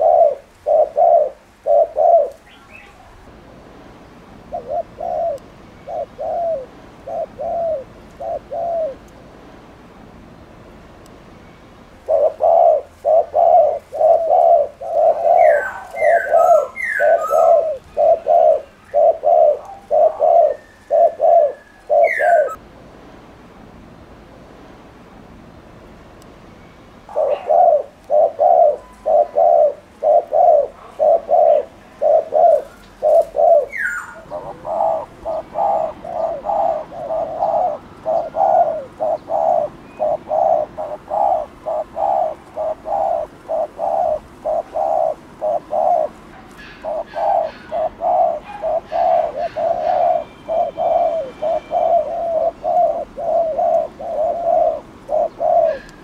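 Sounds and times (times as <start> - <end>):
dove cooing: 0.0 - 3.3, 4.4 - 9.1, 12.0 - 22.6, 27.1 - 56.0.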